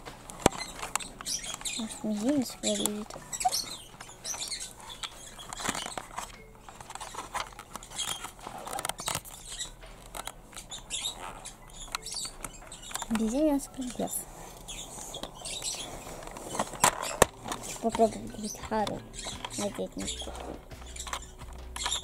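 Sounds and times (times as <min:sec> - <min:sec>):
small plastic parts clicking: 0:00.0 - 0:14.1, 0:15.0 - 0:22.0
plastic scraping: 0:00.0 - 0:22.0.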